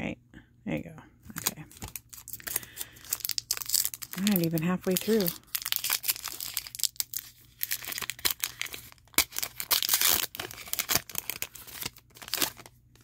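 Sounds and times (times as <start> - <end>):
foil wrapper tearing and crinkling: 1.4 - 13.0.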